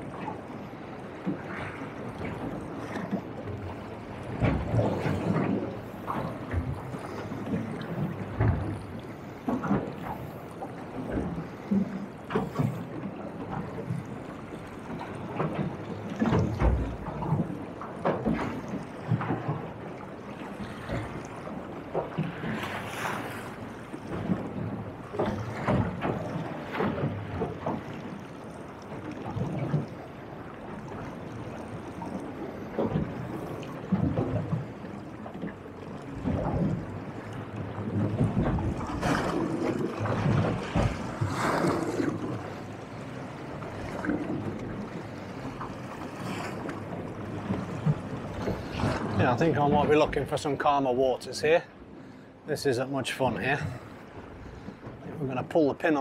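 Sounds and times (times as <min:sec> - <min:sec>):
waves slapping boat hull: 0:00.0 - 0:56.0.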